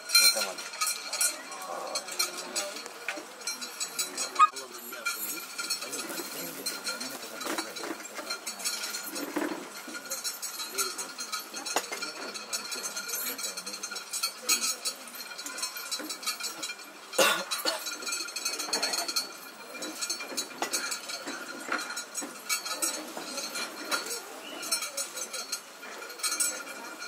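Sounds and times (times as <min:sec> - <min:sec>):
faint background voices: 0:00.0 - 0:27.0
metal clinking and jingling: 0:00.0 - 0:27.0.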